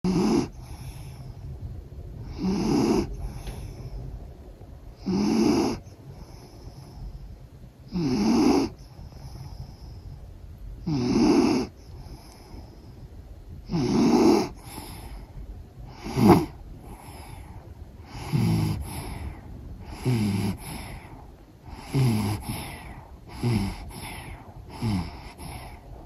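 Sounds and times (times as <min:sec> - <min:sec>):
dog snoring: 0:00.0 - 0:01.5, 0:02.2 - 0:04.0, 0:05.0 - 0:10.2, 0:10.8 - 0:26.0.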